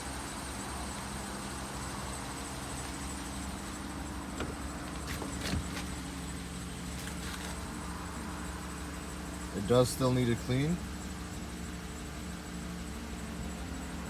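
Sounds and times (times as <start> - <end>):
vehicle engine idling hum: 0.0 - 14.0.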